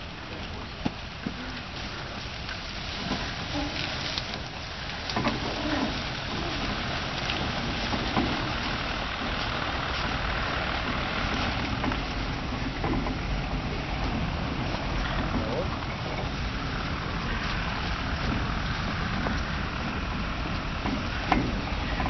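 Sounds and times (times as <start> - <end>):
railway carriage wheels rumbling on rails: 0.0 - 22.0.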